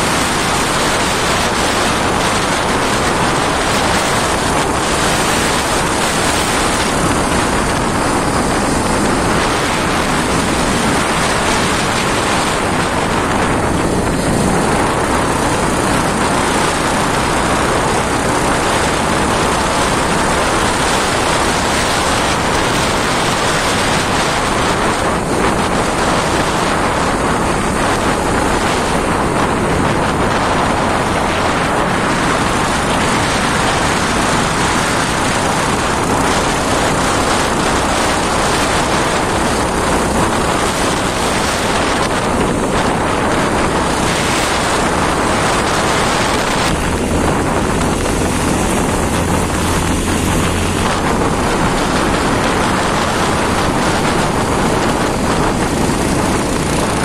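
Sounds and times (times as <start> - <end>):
motorcycle engine humming: 0.0 - 57.0
wind rushing over microphone: 0.0 - 57.0.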